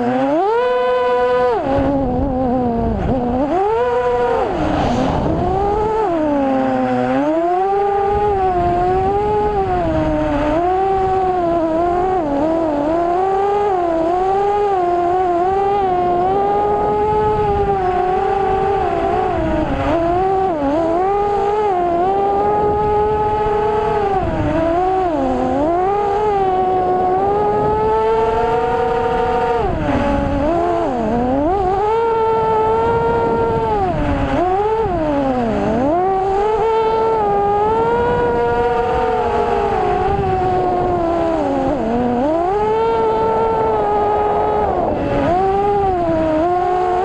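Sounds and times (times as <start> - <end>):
quadcopter motors whining: 0.0 - 47.0
steady rushing noise: 0.0 - 47.0.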